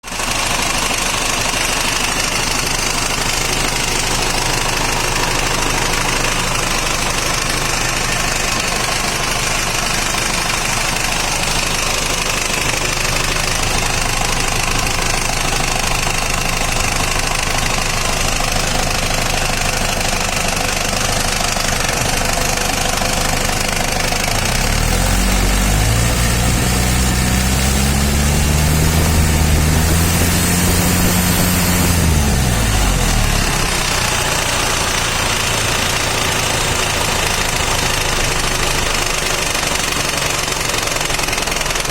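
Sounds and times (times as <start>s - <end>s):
diesel engine idling and revving: 0.0s - 41.9s.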